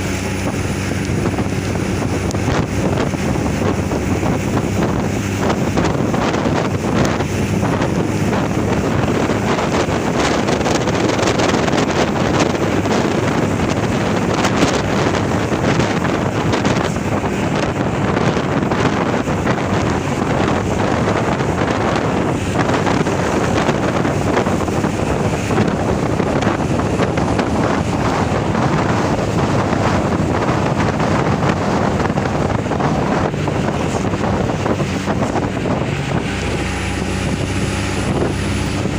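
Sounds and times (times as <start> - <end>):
truck engine and road noise: 0.0 - 38.9
wind buffeting microphone: 0.0 - 38.9.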